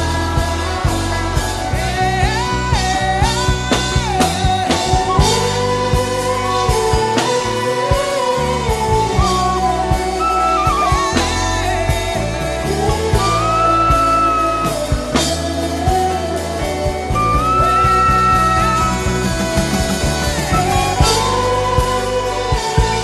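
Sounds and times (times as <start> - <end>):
band with drums and bass: 0.0 - 23.0.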